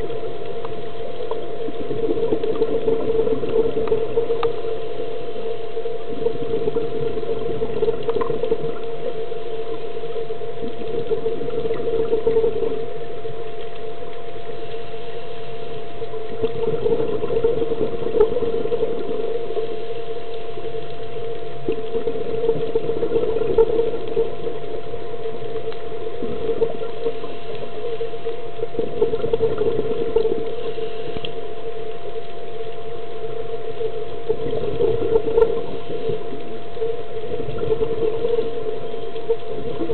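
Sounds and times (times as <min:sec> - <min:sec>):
underwater drone: 0:00.0 - 0:39.9.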